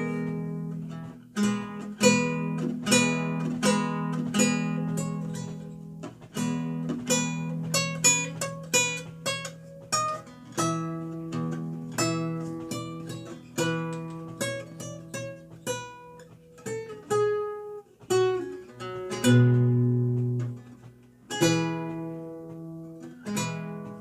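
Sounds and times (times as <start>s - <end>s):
lute playing: 0.0s - 24.0s.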